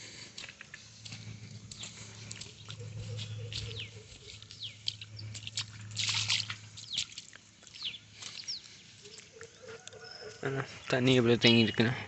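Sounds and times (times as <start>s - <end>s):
steady low hum: 0.0s - 9.7s
small birds chirping: 0.0s - 12.0s.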